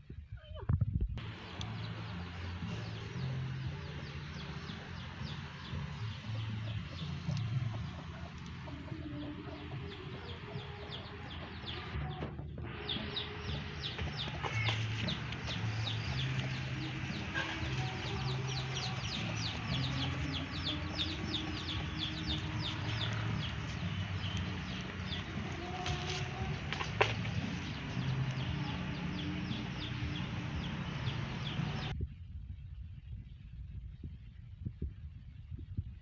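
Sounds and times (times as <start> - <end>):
chickens calling: 1.2 - 31.9.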